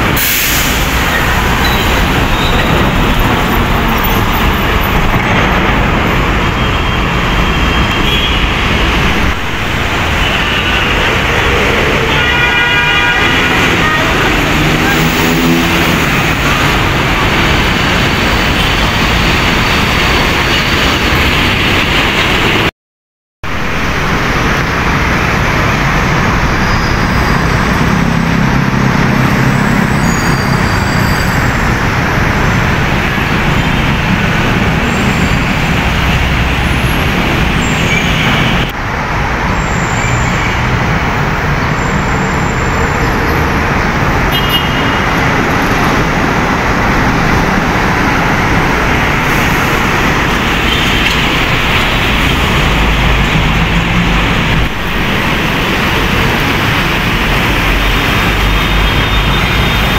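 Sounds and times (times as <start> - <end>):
trucks and cars passing: 0.0 - 22.7, 23.4 - 59.9.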